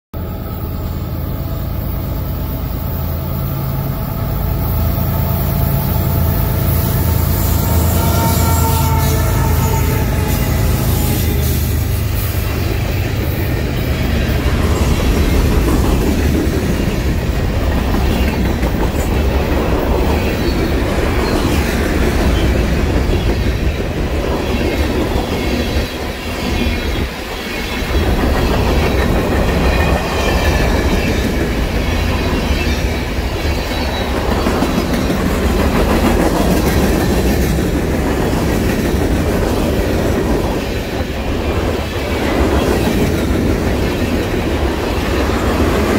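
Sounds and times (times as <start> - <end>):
train wheels rumbling on rail: 0.1 - 45.9.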